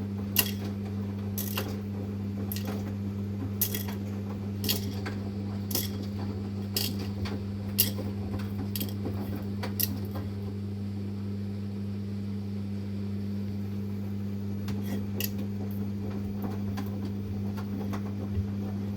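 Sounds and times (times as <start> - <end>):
washing machine humming: 0.0 - 18.9.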